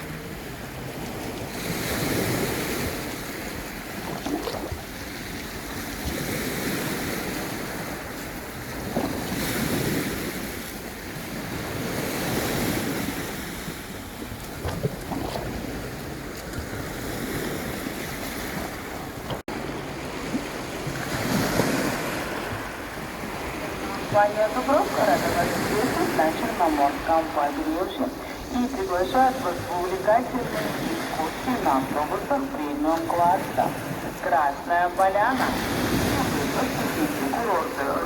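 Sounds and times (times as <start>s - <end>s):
waves breaking on shore: 0.0s - 38.0s.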